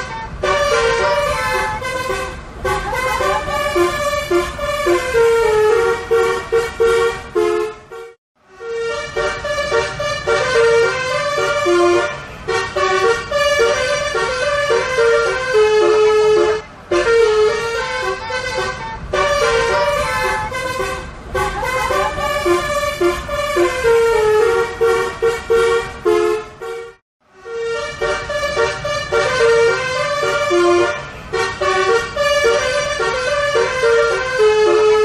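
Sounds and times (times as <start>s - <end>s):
multi-tone bus air horns playing tune: 0.0s - 35.0s.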